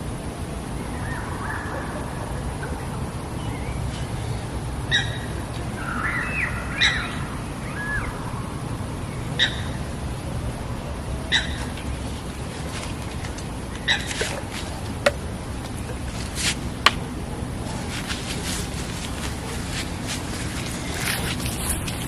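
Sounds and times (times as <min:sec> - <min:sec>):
birds chirping: 0:00.0 - 0:22.0
low outdoor rumble: 0:00.0 - 0:22.0
bird sharp calls: 0:00.9 - 0:10.2, 0:11.0 - 0:22.0.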